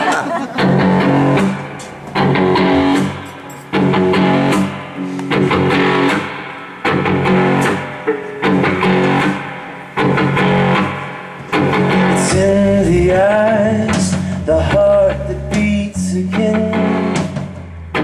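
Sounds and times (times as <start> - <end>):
strummed guitar chords: 0.0 - 18.0.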